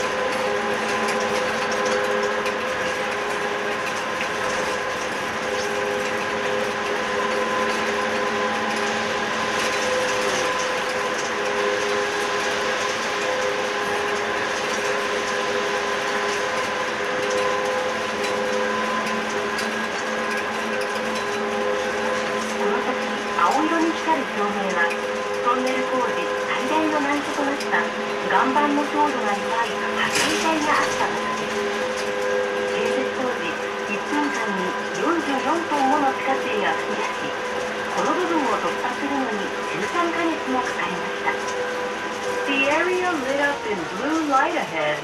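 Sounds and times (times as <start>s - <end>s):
electric drive hum: 0.0s - 45.0s.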